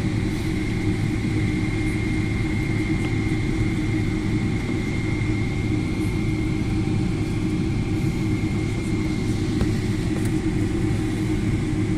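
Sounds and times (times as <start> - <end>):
airliner engines humming: 0.0 - 11.9
high engine whine: 0.0 - 11.9.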